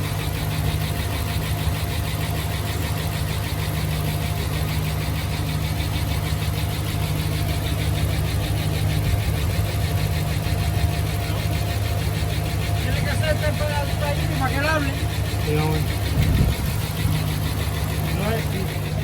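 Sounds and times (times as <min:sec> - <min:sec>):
engine idling: 0:00.0 - 0:19.0
valvetrain ticking: 0:00.0 - 0:19.0.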